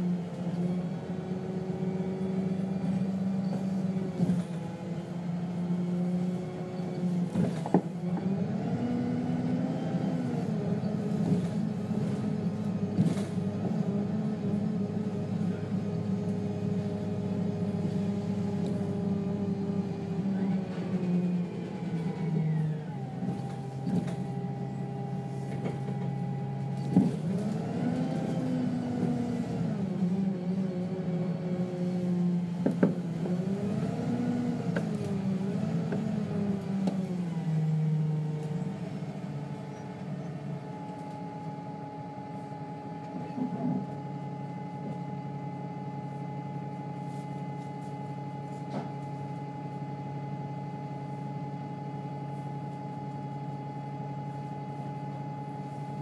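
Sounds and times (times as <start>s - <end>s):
bus diesel engine revving: 0.0s - 45.6s.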